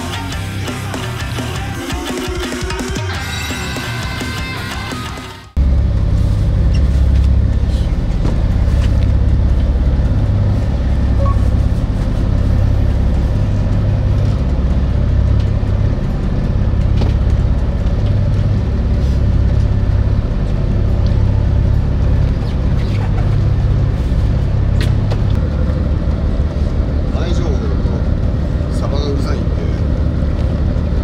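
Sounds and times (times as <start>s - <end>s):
boat engine rumbling: 5.4s - 31.0s.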